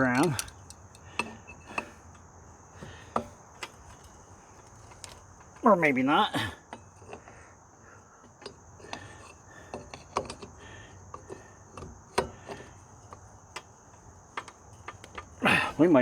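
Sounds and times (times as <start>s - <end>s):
cricket trill: 0.0s - 16.0s
hand tools clicking and knocking: 0.0s - 16.0s.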